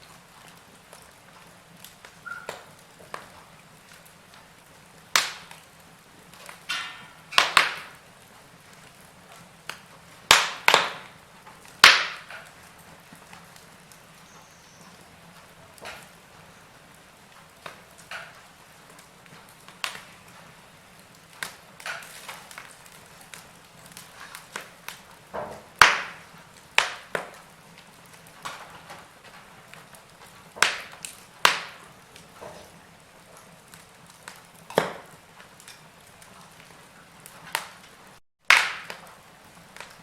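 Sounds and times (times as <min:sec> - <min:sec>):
fire crackling and popping: 0:00.0 - 0:40.0
low steady fire hiss: 0:00.0 - 0:40.0.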